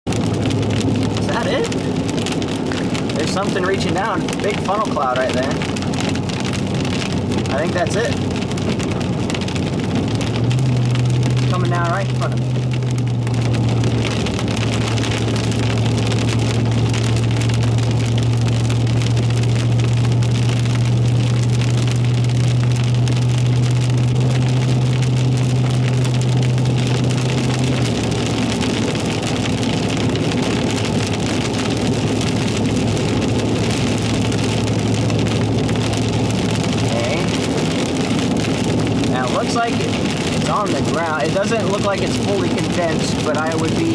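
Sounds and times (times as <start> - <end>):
rain falling on a car: 0.1 - 43.9
vehicle low hum: 0.1 - 43.9.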